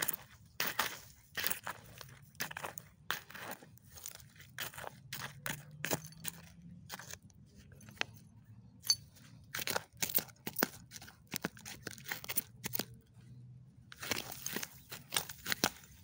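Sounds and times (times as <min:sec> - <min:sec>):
hand tool scraping soil and glass: 0:00.0 - 0:08.1, 0:08.8 - 0:12.9, 0:13.9 - 0:16.0.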